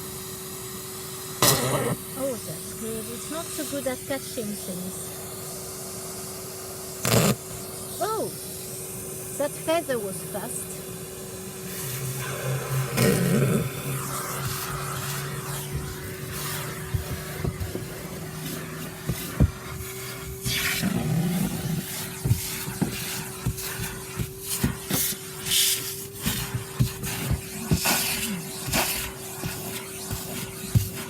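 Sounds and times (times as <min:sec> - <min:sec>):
vacuum cleaner whine: 0:00.0 - 0:31.0.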